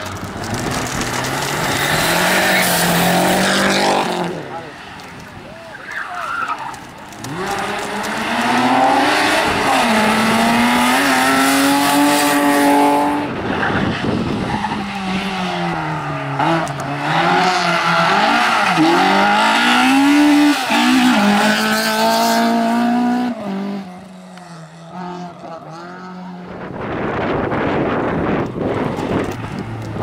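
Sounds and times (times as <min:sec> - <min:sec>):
rally car engine revving: 0:00.0 - 0:05.2, 0:05.9 - 0:30.0.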